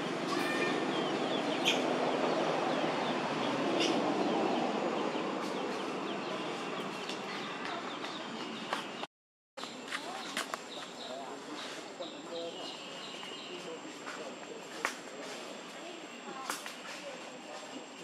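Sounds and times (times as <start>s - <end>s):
noisy outdoor background: 0.0s - 18.0s.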